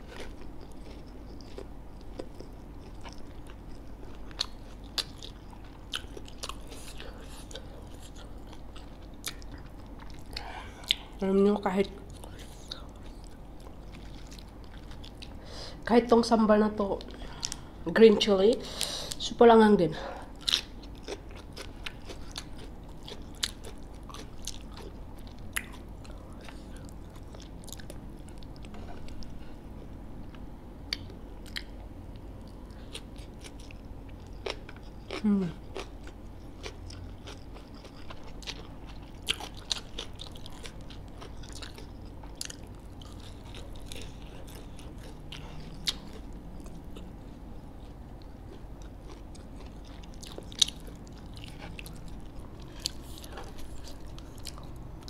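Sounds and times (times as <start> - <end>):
person chewing crispy food: 0.0 - 11.2, 12.0 - 15.4, 20.2 - 55.0.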